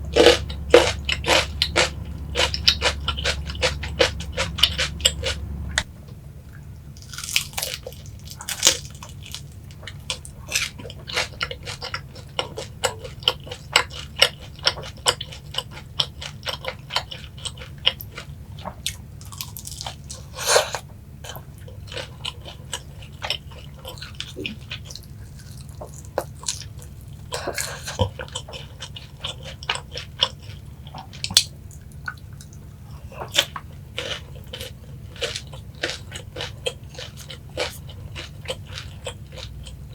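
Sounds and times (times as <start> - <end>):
crunchy chewing of fried chicken: 0.0 - 5.8, 6.6 - 39.9.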